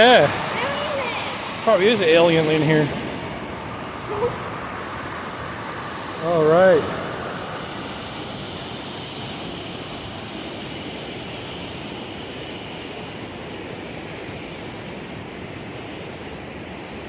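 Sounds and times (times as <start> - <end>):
white water rushing: 0.0 - 17.0.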